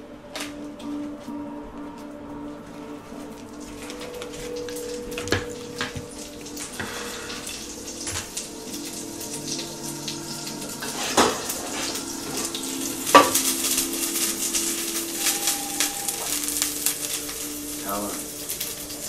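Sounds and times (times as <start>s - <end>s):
food sizzling in pan: 3.1s - 19.0s.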